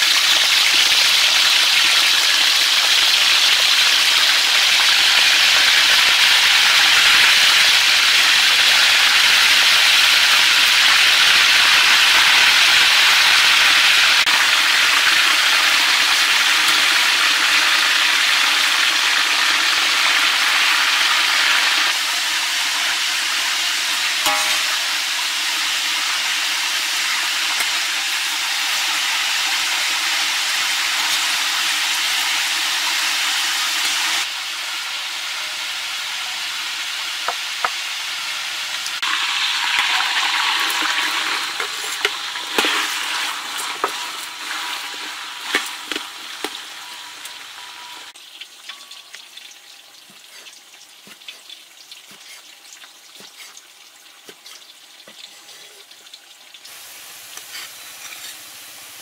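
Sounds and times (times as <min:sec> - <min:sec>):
sauce sizzling in a pan: 0:00.0 - 0:59.0.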